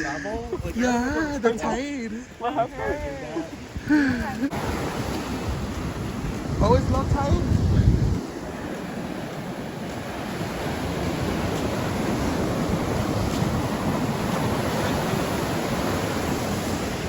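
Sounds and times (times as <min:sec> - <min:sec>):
ocean surf on shore: 0:00.0 - 0:17.0
wind buffeting microphone: 0:00.0 - 0:17.0.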